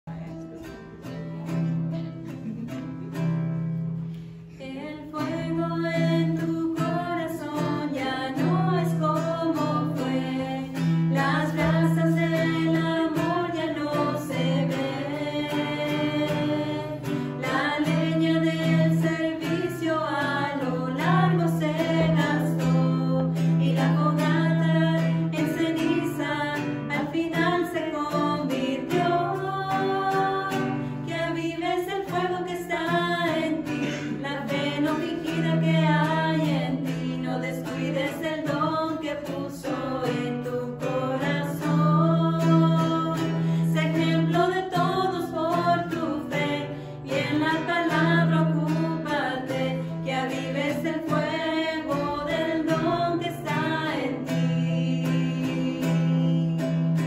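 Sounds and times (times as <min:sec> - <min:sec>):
acoustic guitar strumming: 0:00.1 - 0:57.0
women singing a hymn: 0:04.5 - 0:57.0.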